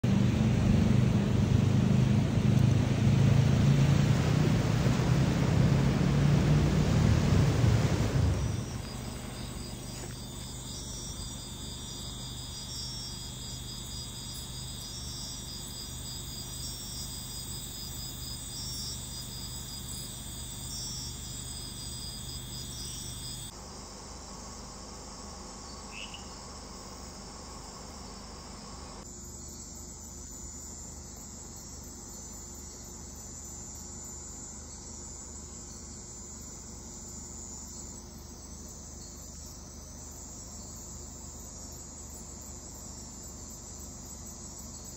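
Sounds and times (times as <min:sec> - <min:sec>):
crickets and insects trilling: 0:00.1 - 0:44.9.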